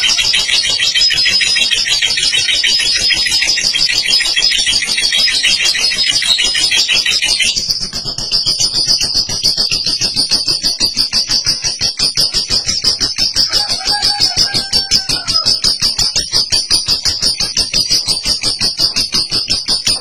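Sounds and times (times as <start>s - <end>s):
lovebird chattering trill: 0.0s - 20.0s.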